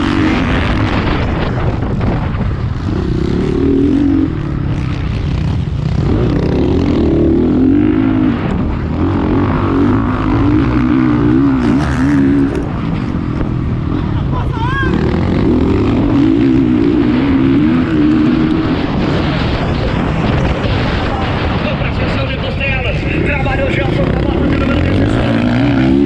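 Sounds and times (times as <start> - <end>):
motocross bike engine revving: 0.0 - 21.7, 22.9 - 26.0.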